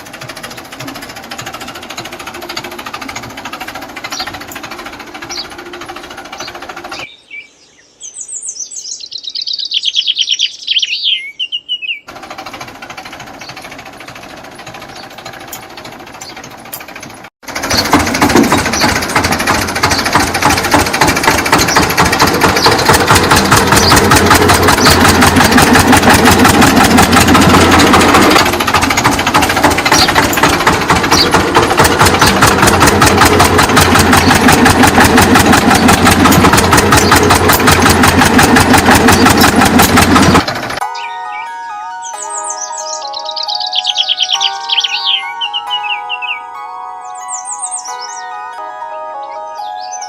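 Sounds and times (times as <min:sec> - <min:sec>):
engine chugging: 0:00.0 - 0:07.2, 0:12.1 - 0:46.6.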